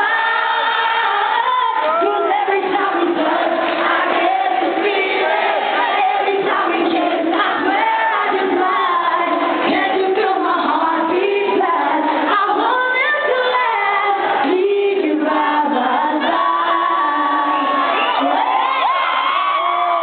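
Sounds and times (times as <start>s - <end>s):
crowd singing along: 0.0s - 18.9s
live dance song: 0.0s - 20.0s
woman singing lead vocal: 0.0s - 20.0s.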